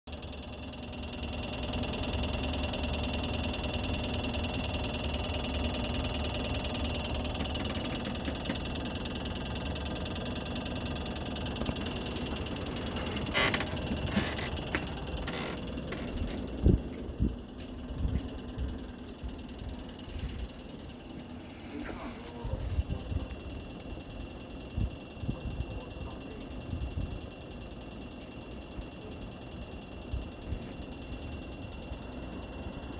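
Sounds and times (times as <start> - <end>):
air conditioner unit humming: 0.1 - 32.9.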